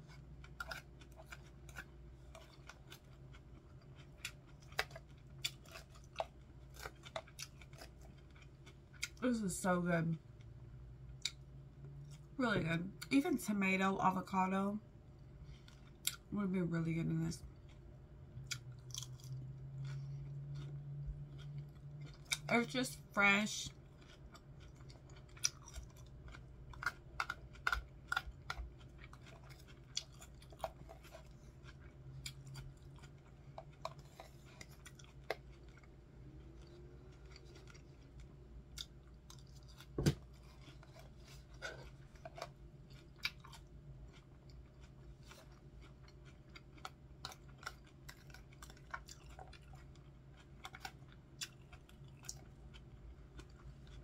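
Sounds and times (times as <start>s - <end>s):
person chewing crunchy lettuce: 0.0s - 9.2s, 17.5s - 54.0s.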